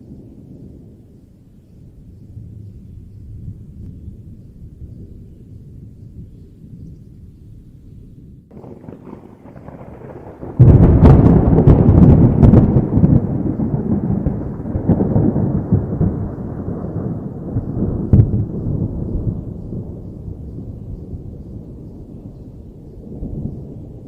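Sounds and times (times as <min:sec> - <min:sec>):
thunder cracking and rumbling: 0:00.0 - 0:24.0.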